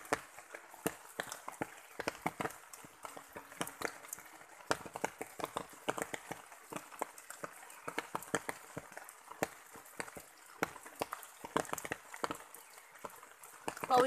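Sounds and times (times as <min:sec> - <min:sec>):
faint hiss of water: 0:00.0 - 0:14.0
heavy raindrops tapping: 0:00.0 - 0:14.0.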